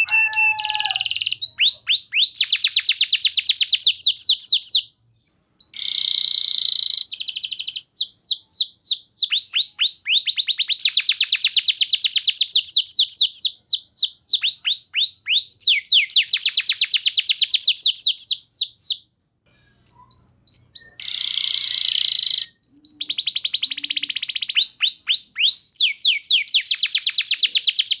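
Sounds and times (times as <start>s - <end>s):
canary singing whistles and trills: 0.0s - 5.0s, 5.6s - 19.1s, 19.8s - 28.0s.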